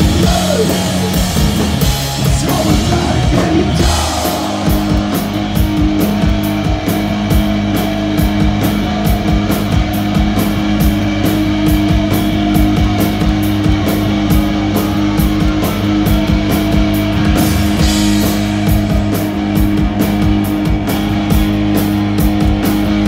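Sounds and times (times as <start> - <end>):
drum kit: 0.0 - 23.0
electric guitar chords: 0.0 - 23.0.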